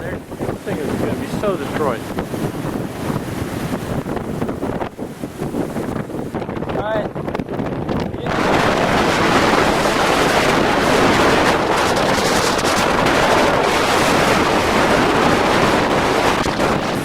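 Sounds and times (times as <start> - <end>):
storm wind roaring on microphone: 0.0 - 17.0.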